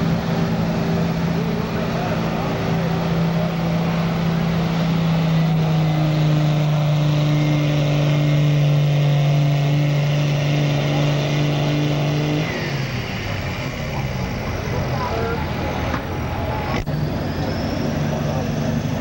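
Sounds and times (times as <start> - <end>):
pickup truck engine at high revs: 0.0 - 19.0.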